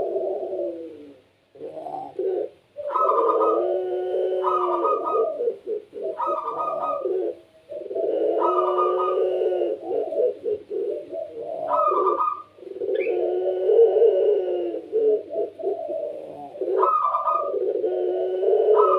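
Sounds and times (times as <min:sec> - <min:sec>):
dove cooing: 0:00.0 - 0:18.9.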